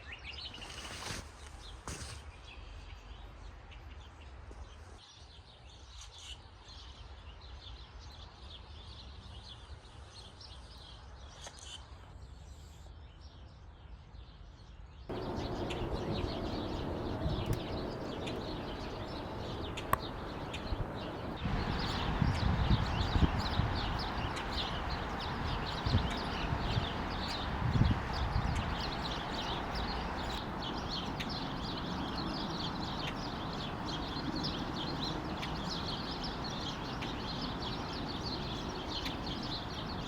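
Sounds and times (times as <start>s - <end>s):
outdoor background noise: 0.0s - 40.0s
small birds chirping: 0.0s - 40.0s.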